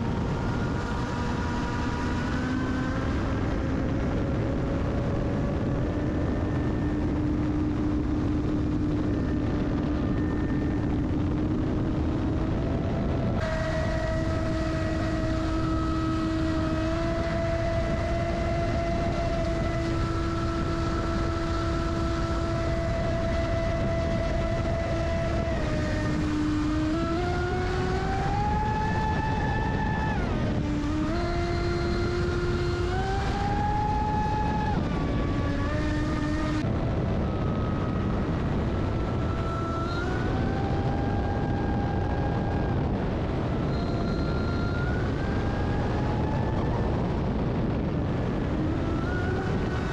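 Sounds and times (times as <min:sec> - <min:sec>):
high-pitched motor whine: 0:00.0 - 0:49.9.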